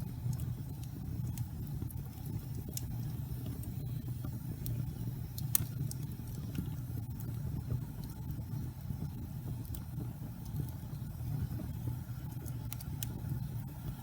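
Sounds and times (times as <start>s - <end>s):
wood fire burning: 0.0s - 14.0s.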